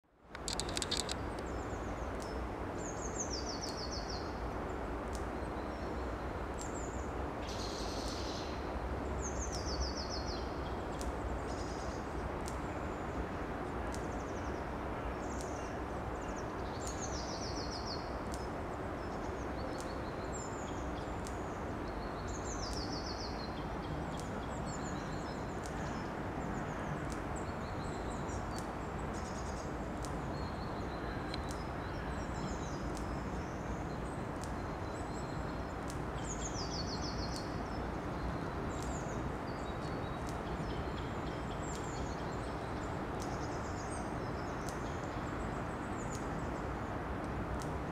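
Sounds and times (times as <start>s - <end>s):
small birds trilling and chirping: 0.3s - 47.9s.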